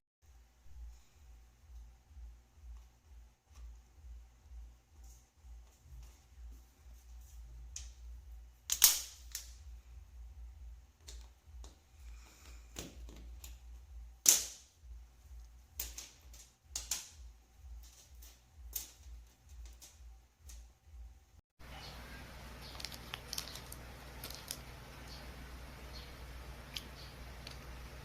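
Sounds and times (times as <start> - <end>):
faint low hum: 0.3 - 28.0.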